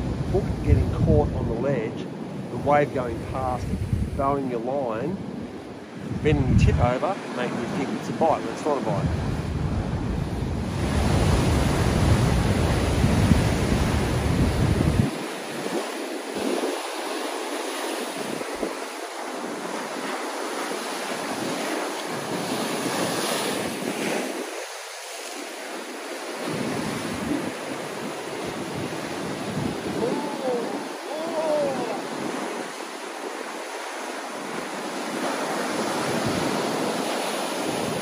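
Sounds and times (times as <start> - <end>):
wind rumble on microphone: 0.0 - 25.4, 26.4 - 38.0
ocean waves breaking over rocks: 0.0 - 38.0.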